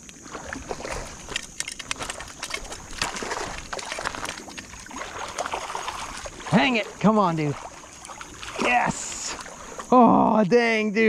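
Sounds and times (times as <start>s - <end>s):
water splashing: 0.0s - 10.4s.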